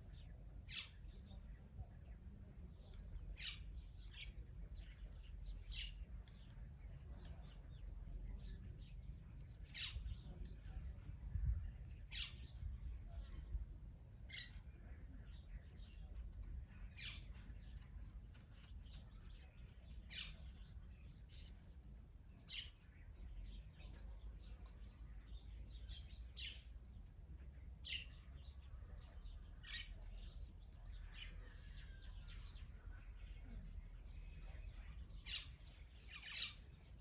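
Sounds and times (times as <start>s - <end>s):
faint low rumble: 0.0s - 37.0s
wild birds chirping: 2.1s - 13.6s, 14.2s - 37.0s.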